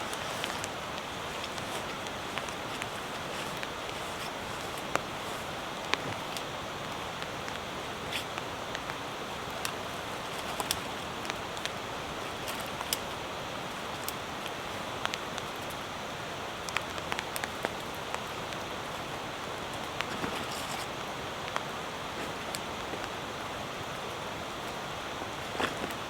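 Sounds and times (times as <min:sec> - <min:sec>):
raindrops ticking on surface: 0:00.0 - 0:26.0
steady rain: 0:00.0 - 0:26.0.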